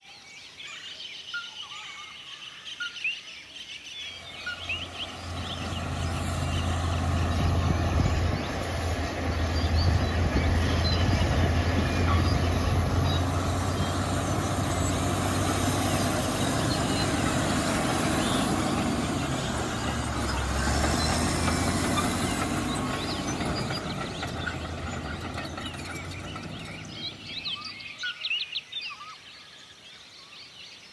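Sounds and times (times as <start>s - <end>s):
birds chirping: 0.3s - 30.6s.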